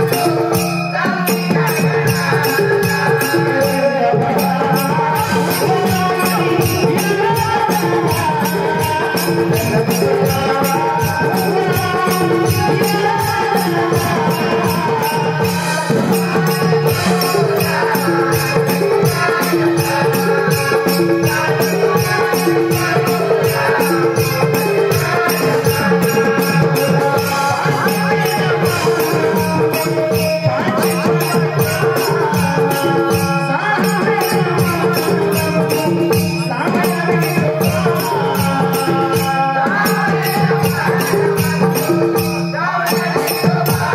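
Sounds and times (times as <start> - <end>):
fast high-pitched percussion: 0.0 - 43.9.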